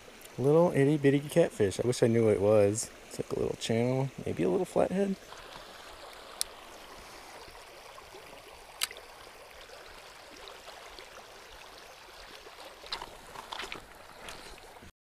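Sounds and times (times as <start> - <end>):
river running over stones: 0.0 - 14.9.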